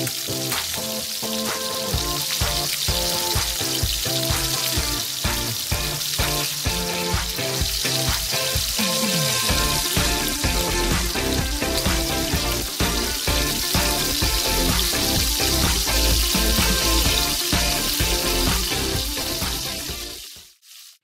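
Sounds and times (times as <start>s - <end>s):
background music with steady beat: 0.0s - 20.4s
fish sizzling in hot oil: 0.0s - 21.0s.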